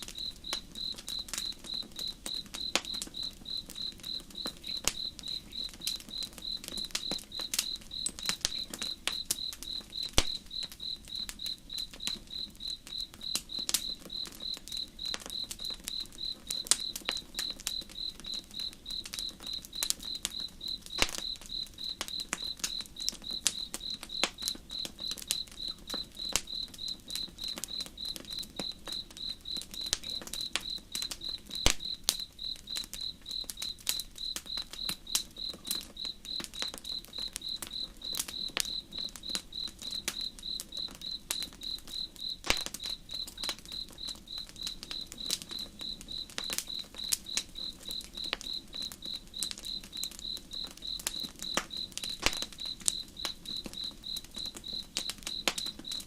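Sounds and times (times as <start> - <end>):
campfire crackling and popping: 0.0 - 56.0
crickets chirping: 0.0 - 56.0.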